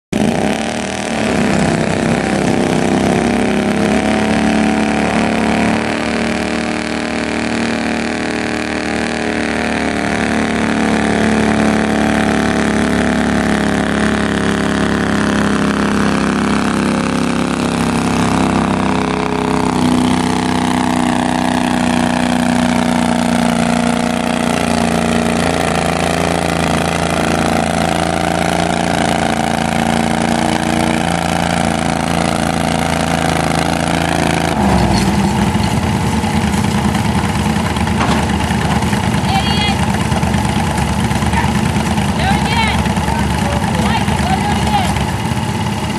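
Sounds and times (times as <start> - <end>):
tractor engine under load: 0.1 - 45.9.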